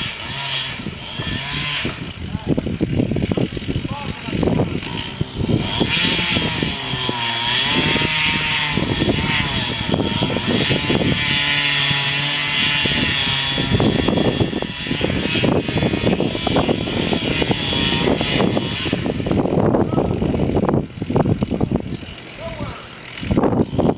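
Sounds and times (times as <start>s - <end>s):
chainsaw engine running: 0.0s - 23.9s.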